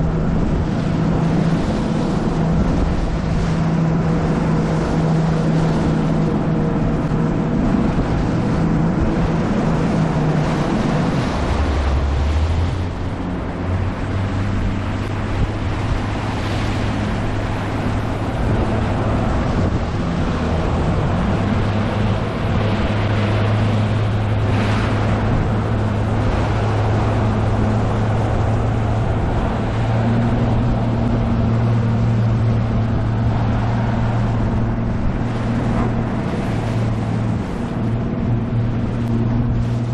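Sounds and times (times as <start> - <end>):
outboard motor running: 0.0 - 39.9
water splashing against hull: 0.0 - 39.9
wind on microphone: 0.0 - 39.9.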